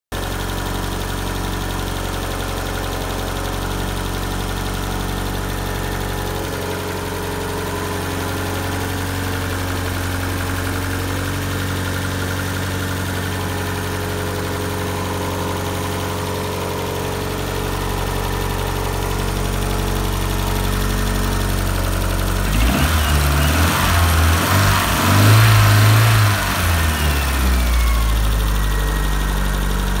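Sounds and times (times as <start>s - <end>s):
car engine idling: 0.2s - 30.0s.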